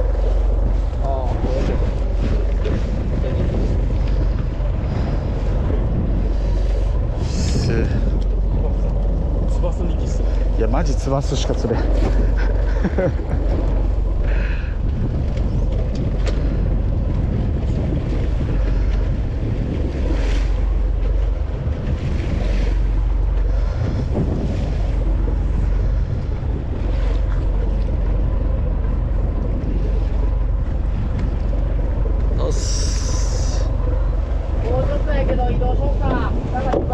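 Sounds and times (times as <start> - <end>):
water washing: 0.0 - 36.9
wind rumbling on microphone: 0.0 - 36.9.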